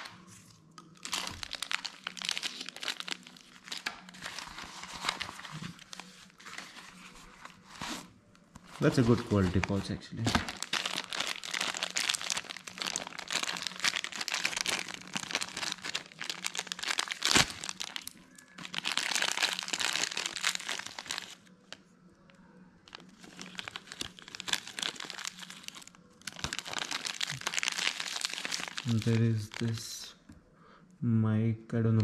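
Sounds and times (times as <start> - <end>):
plastic bag crinkling: 1.0 - 7.0, 8.6 - 21.5, 22.9 - 30.1.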